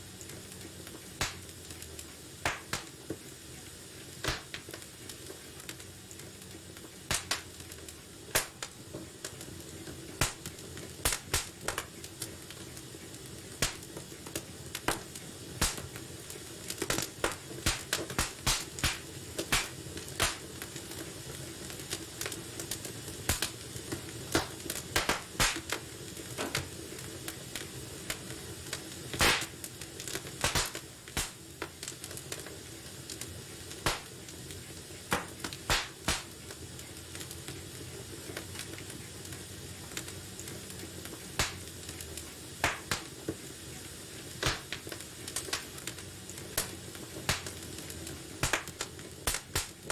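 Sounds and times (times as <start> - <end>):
fire crackling and popping: 0.0 - 49.9
fire hissing: 0.0 - 49.9.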